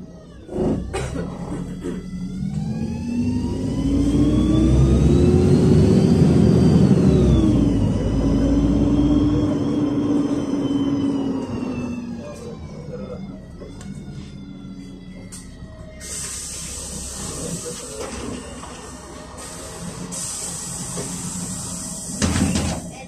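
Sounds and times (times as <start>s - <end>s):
bus engine pulling away: 0.0s - 23.0s.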